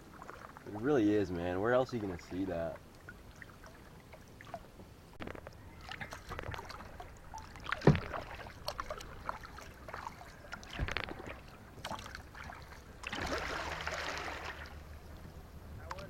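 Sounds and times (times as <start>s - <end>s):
paddle strokes splashing in water: 0.0s - 14.9s.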